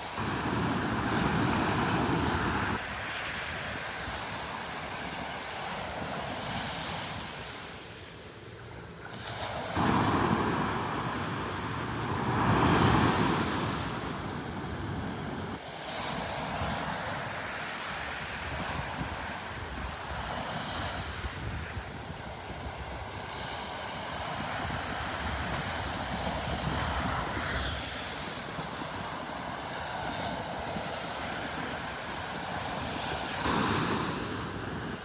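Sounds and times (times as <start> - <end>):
wind buffeting microphone: 0.0 - 17.4, 18.0 - 35.0
waves breaking on sand: 0.0 - 35.0.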